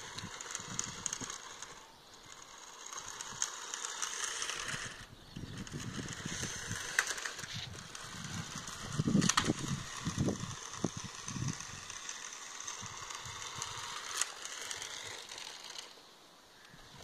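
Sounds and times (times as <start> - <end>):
toy car motor whirring: 0.0 - 17.0.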